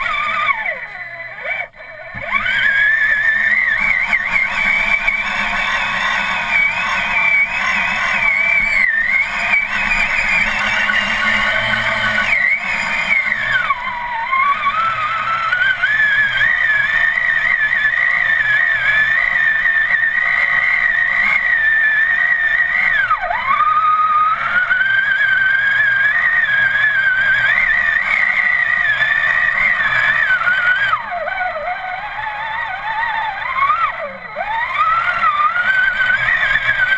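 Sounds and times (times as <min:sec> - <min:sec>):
electric motor whining: 0:00.0 - 0:36.9.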